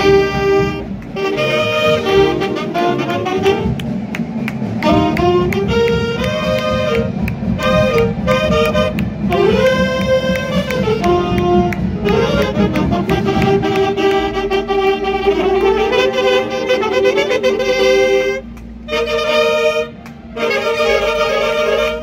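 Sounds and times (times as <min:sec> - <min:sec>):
alto saxophones playing a tune: 0:00.0 - 0:22.0.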